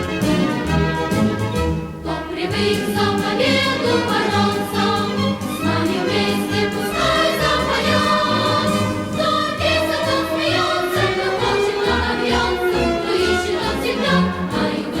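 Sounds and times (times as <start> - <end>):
choir singing with instruments: 0.0 - 15.0.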